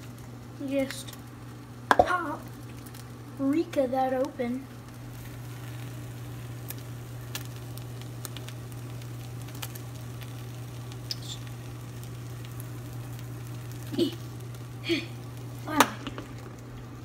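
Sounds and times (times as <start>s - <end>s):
crackles and pops: 0.0s - 17.0s
eggs sizzling in a pan: 0.0s - 17.0s.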